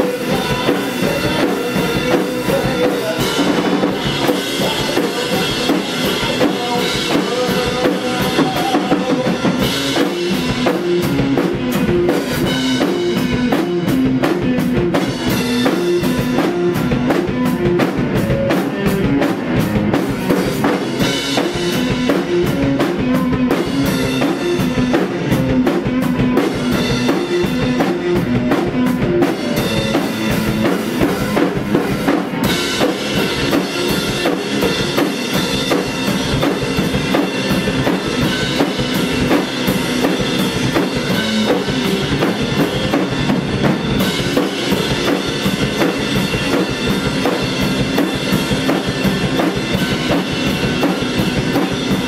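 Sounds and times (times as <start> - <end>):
distorted electric guitar: 0.0 - 52.0
drum kits playing: 0.0 - 52.0.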